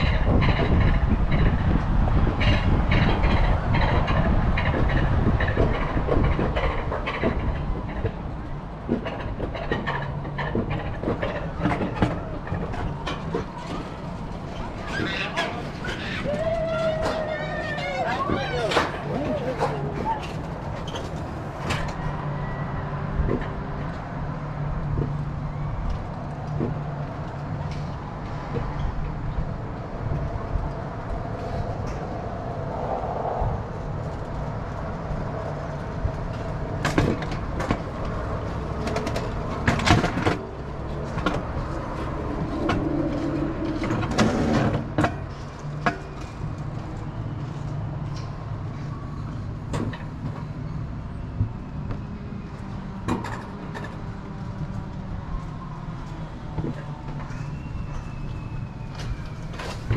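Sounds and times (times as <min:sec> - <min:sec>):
cart clanking and rattling: 0:00.0 - 0:32.7, 0:33.8 - 0:59.9
coaster wheels droning on rail: 0:00.0 - 0:59.9.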